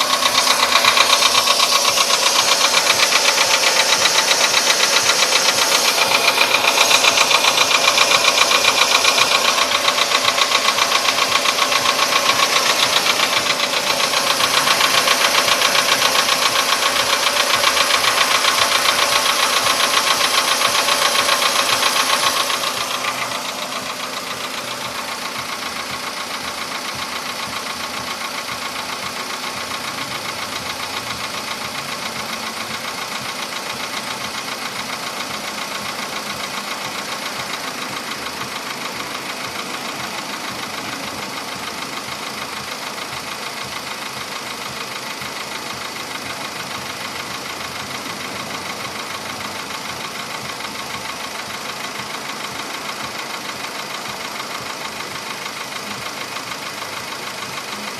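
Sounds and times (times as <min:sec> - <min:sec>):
car engine idling: 0:00.0 - 0:57.9
fast even engine knock: 0:00.0 - 0:57.9.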